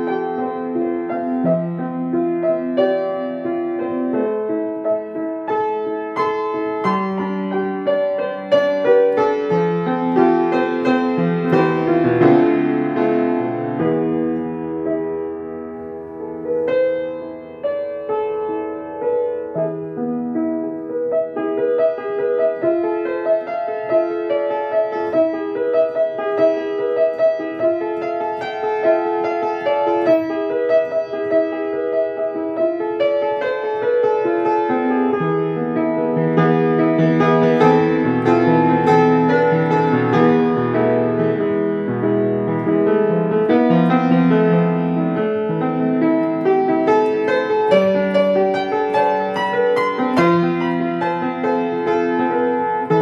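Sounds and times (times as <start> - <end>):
grand piano playing: 0.0 - 53.0.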